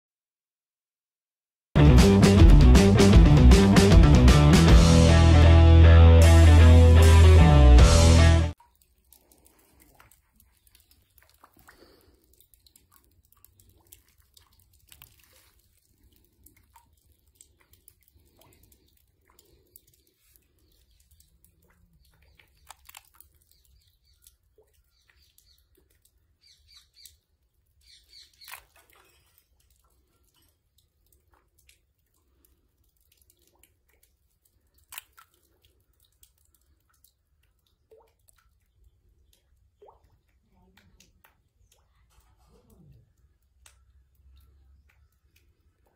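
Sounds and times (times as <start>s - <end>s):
small clicks and ticks: 8.6s - 45.9s.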